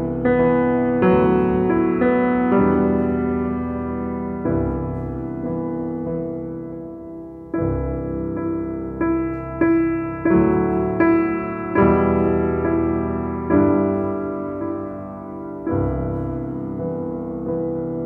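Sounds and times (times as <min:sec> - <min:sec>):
slow ambient piano chords: 0:00.0 - 0:18.0.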